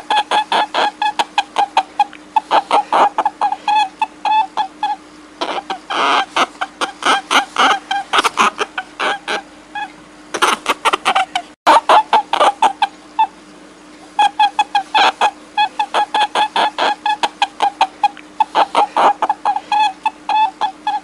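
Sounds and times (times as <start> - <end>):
squeaky animal calls: 0.0 - 13.4, 14.0 - 21.0
faint steady hum: 0.0 - 21.0.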